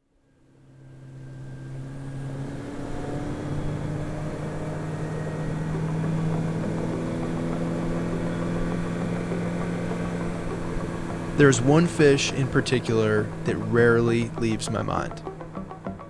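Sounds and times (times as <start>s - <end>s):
engine running: 0.4s - 15.5s.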